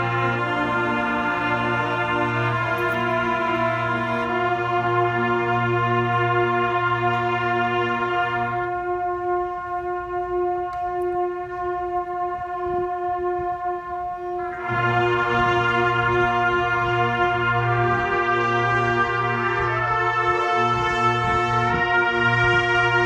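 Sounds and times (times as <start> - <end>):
brass chords: 0.0 - 23.0.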